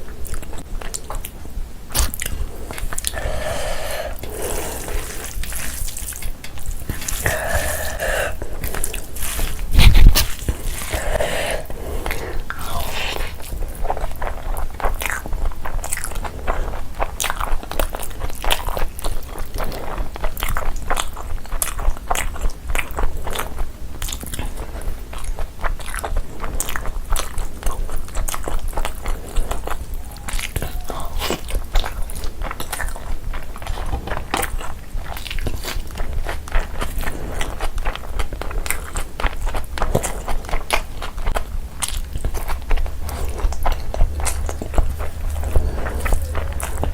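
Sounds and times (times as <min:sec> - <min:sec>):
steady low hum: 0:00.0 - 0:20.0, 0:21.8 - 0:46.9
person chewing food: 0:00.0 - 0:46.9.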